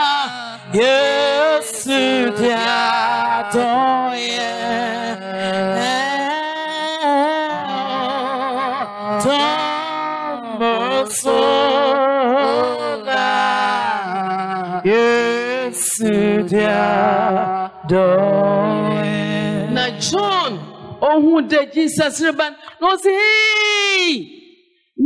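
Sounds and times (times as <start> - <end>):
choir singing church chorus: 0.0 - 21.0.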